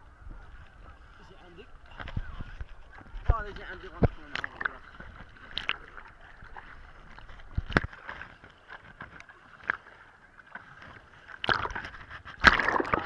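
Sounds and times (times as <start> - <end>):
paddling splashes: 0.0 - 13.0
seawater sloshing: 0.0 - 13.0.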